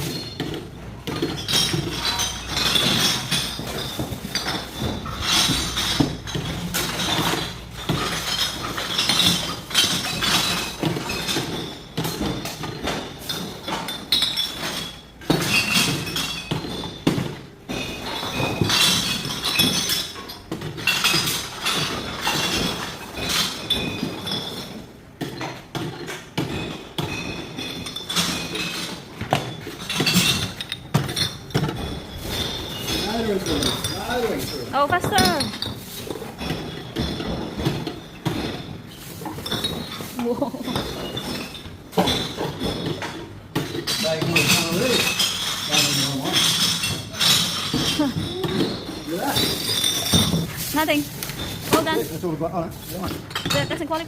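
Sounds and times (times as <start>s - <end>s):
glass clinking: 0.0s - 54.0s.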